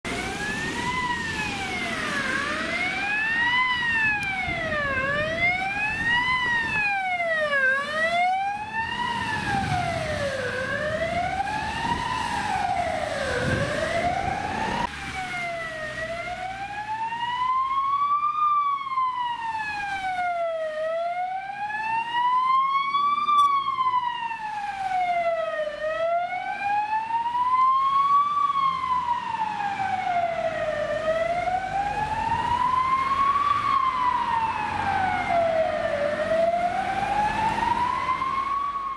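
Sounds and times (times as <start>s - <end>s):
fire engine siren wailing: 0.0s - 38.9s
traffic noise: 0.0s - 38.9s.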